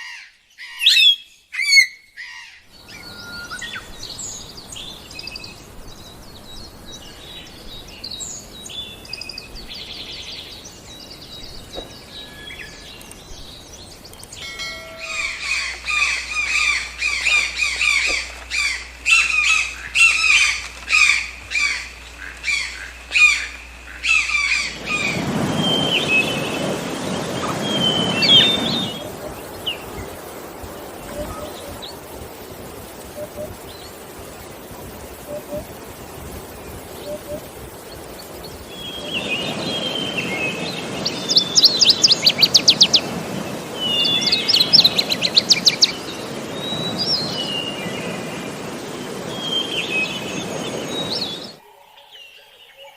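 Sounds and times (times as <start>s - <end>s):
birds chirping and calling: 0.0s - 34.0s, 35.0s - 51.6s.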